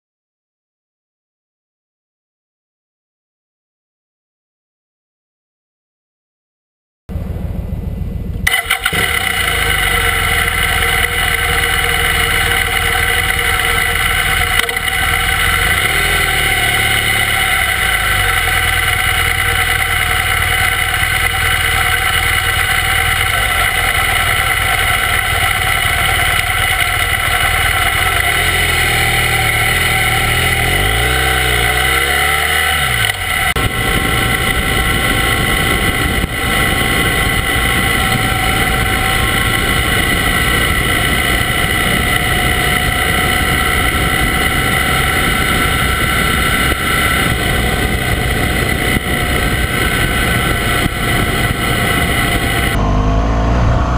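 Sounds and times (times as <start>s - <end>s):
motorcycle engine running: 7.1s - 53.9s.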